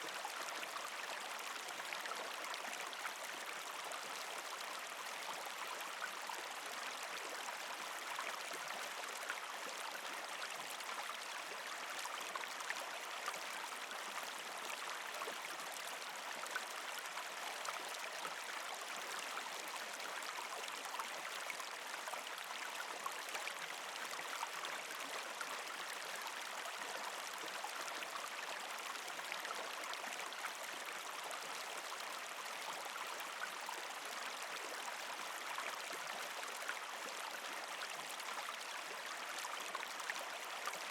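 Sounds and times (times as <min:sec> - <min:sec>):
creek flowing over rocks: 0:00.0 - 0:40.9.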